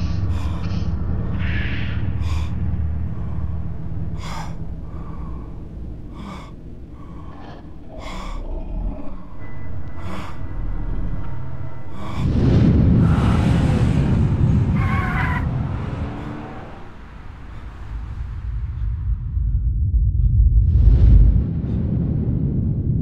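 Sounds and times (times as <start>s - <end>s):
low rumble: 0.0s - 23.0s
rumbling jump-scare sound effect: 0.0s - 23.0s.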